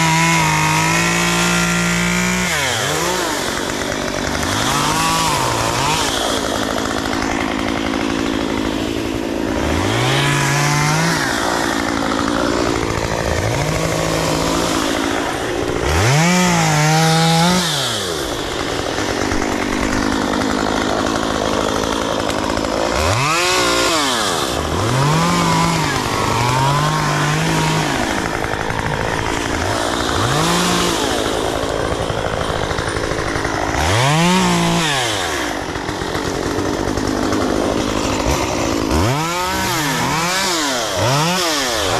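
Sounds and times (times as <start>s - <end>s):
chainsaw engine revving: 0.0s - 41.9s.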